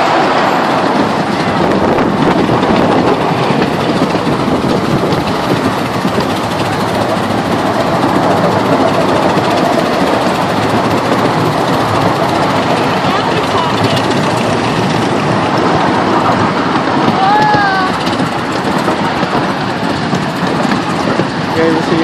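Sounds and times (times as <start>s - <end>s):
train wheels clattering on rails: 0.0s - 22.0s.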